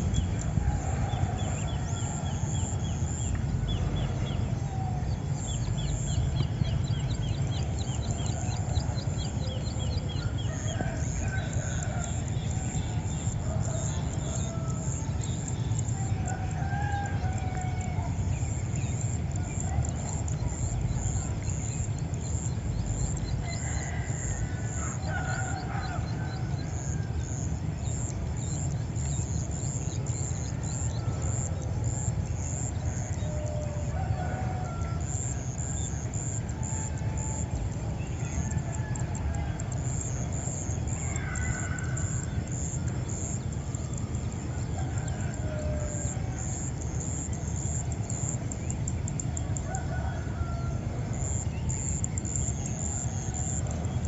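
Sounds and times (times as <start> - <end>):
roosters crowing: 0.0 - 6.3, 7.7 - 20.0, 22.6 - 28.4, 29.3 - 54.0
constant low rumble: 0.0 - 54.0.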